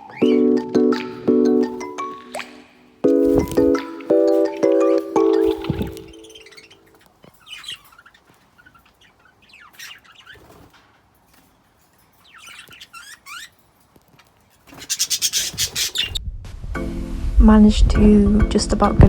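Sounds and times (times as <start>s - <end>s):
birds chirping: 0.0s - 16.2s.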